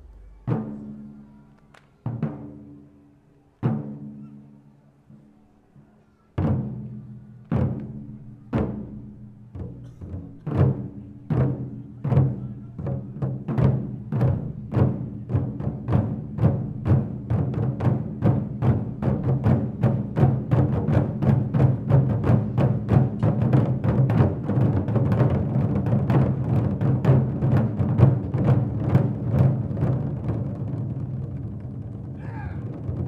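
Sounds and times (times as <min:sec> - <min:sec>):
taiko drums struck: 0:00.0 - 0:02.9, 0:06.4 - 0:33.0.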